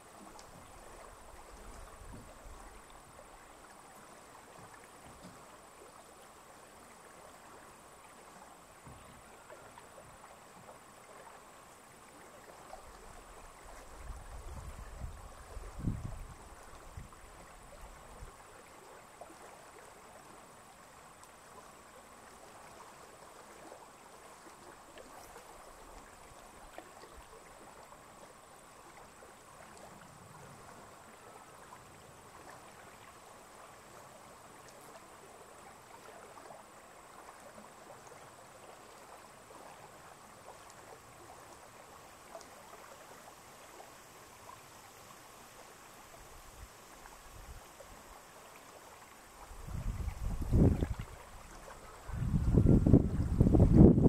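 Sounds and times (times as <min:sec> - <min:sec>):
water lapping gently: 0:00.0 - 0:53.9
small water splashes: 0:06.8 - 0:52.4.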